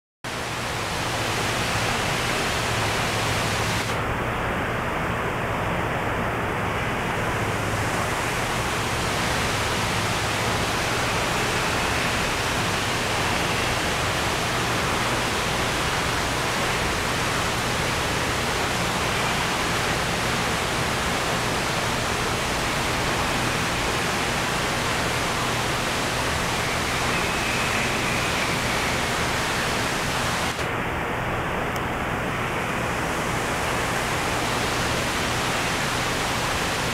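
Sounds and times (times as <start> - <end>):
steady rushing noise: 0.3 - 36.9.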